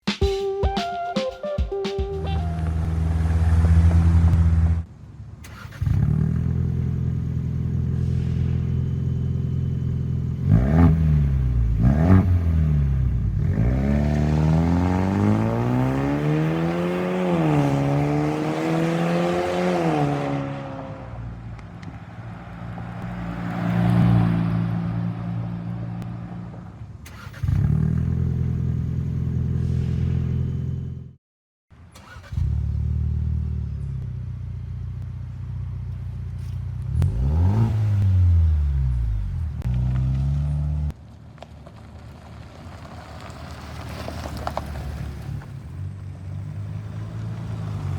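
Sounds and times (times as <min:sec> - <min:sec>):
car engine idling and revving: 0:02.2 - 0:31.2, 0:31.8 - 0:47.9.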